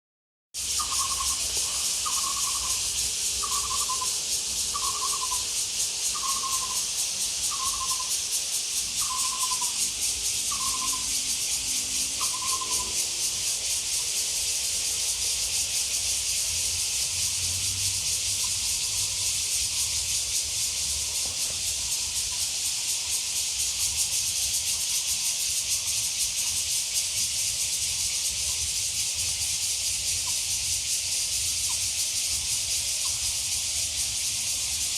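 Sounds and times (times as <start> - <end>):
cicadas buzzing: 0.6 - 34.9.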